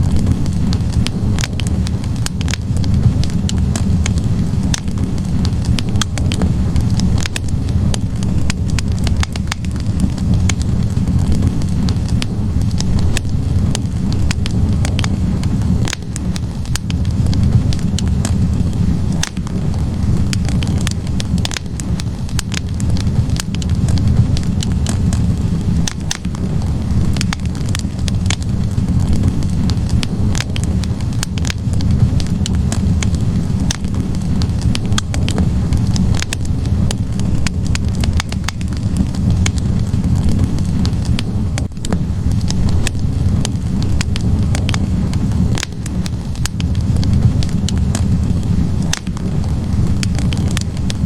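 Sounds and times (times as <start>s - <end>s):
burning logs popping and crackling: 0.0s - 51.0s
fire flames rumbling: 0.0s - 51.0s.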